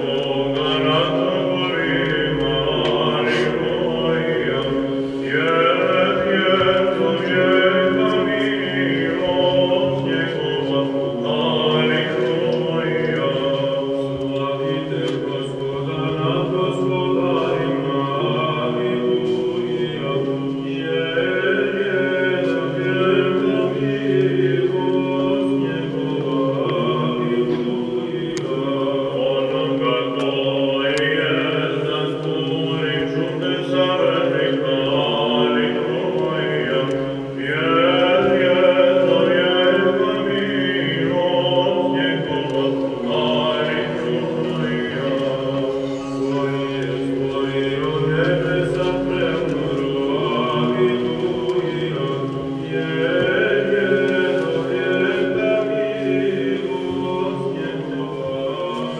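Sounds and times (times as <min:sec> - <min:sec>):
choir chanting: 0:00.0 - 0:58.9.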